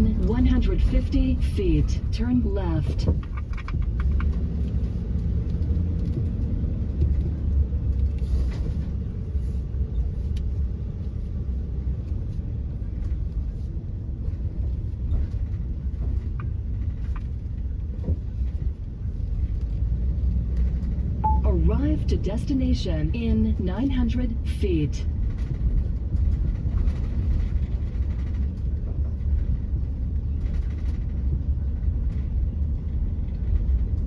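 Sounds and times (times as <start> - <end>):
vehicle road and engine rumble: 0.0 - 34.0.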